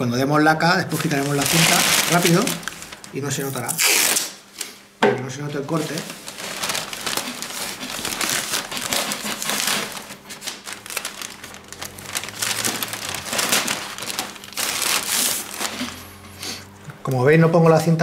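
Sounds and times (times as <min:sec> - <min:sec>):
masking paper crinkling: 0:00.8 - 0:04.8, 0:05.6 - 0:16.3.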